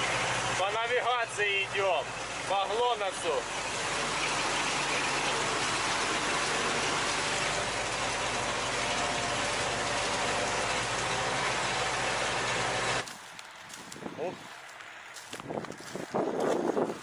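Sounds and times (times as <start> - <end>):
farm machinery engine hum: 0.0 - 17.0.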